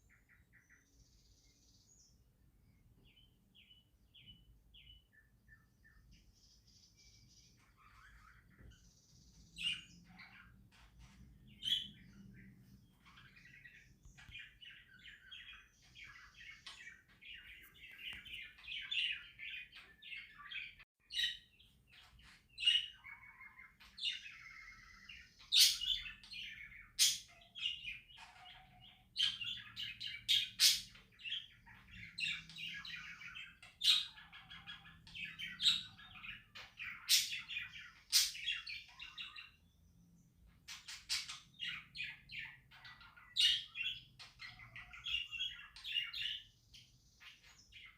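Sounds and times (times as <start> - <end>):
budgerigars chattering and warbling: 6.8 - 39.7, 40.5 - 47.9.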